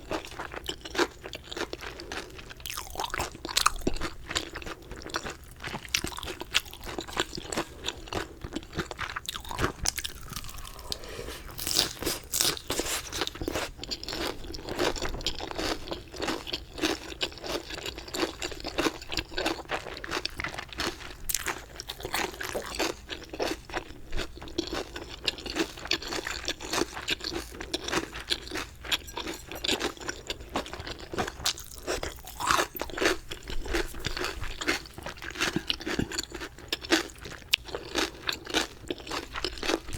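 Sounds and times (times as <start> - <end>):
crisp crunching and chewing: 0.0 - 39.9.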